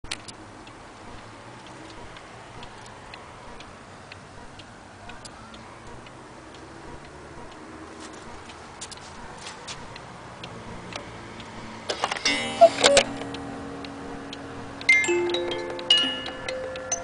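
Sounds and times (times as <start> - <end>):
clock ticking: 0.0 - 17.0.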